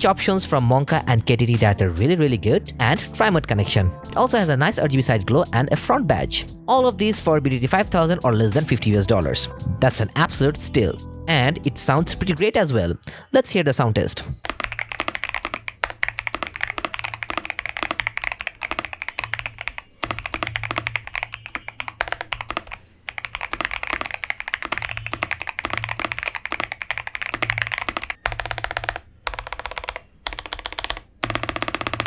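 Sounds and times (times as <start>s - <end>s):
mechanical keyboard typing: 0.0s - 12.7s, 14.4s - 32.0s.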